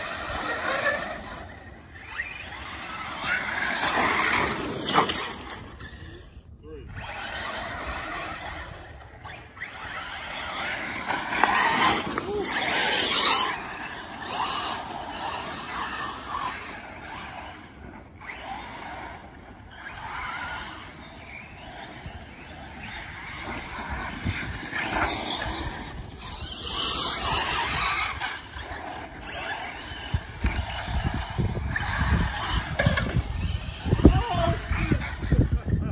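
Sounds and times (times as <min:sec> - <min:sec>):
radio-controlled car motors: 0:00.0 - 0:35.9
tyres on dirt: 0:00.0 - 0:35.9.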